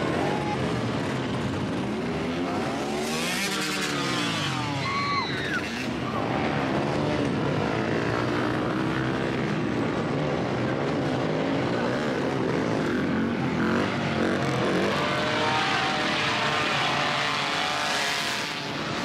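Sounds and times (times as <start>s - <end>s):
vehicles passing by: 0.0s - 19.0s.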